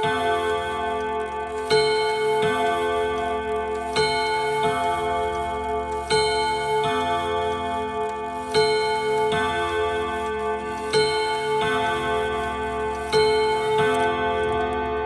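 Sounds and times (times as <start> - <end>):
clock chiming on gong rods: 0.0 - 15.0.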